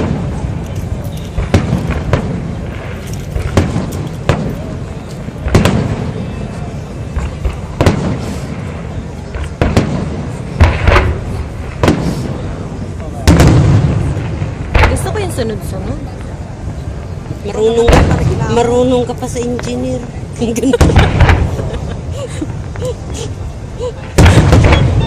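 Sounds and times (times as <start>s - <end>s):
fireworks bangs and booms: 0.0s - 25.0s.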